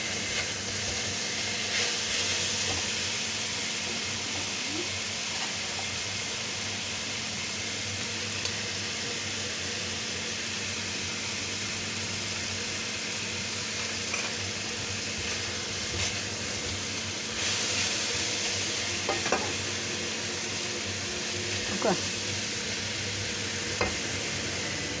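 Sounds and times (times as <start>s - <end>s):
chicken sizzling in pan: 0.0s - 25.0s.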